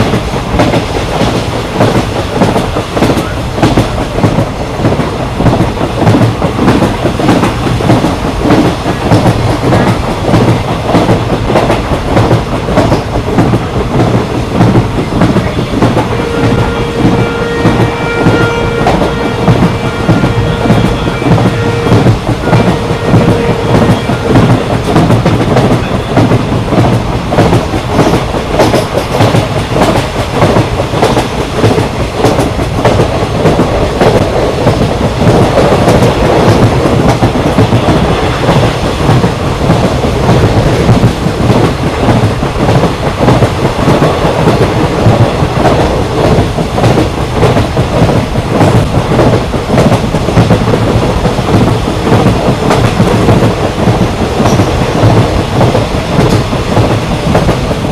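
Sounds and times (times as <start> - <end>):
train rumbling: 0.0 - 57.9.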